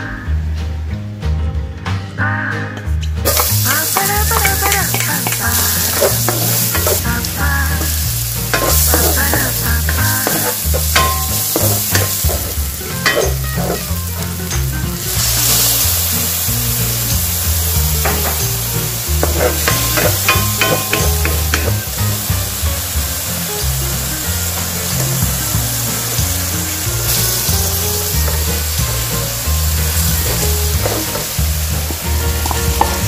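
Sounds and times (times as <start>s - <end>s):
onion and garlic sizzling in oil: 3.2s - 33.0s
wooden spatula scraping a wok: 3.3s - 21.9s, 24.9s - 33.0s.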